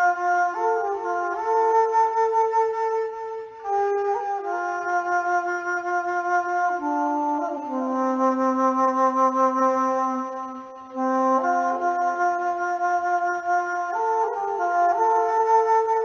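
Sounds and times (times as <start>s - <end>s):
breathy flute slow notes: 0.0s - 16.0s.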